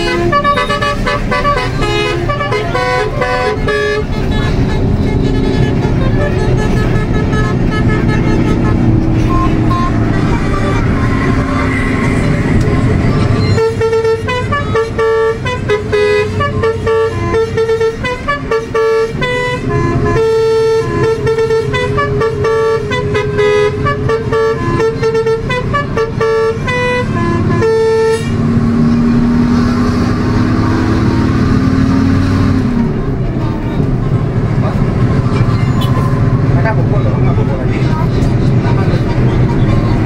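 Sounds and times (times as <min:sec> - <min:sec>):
musical bus horn tune: 0:00.0 - 0:33.9, 0:35.1 - 0:37.0
bus engine running: 0:00.0 - 0:40.0
road noise: 0:00.0 - 0:40.0.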